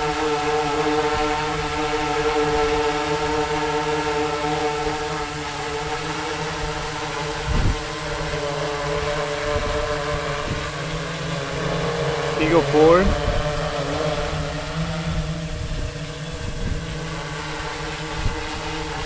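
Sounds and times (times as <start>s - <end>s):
drone motors humming: 0.0s - 19.0s.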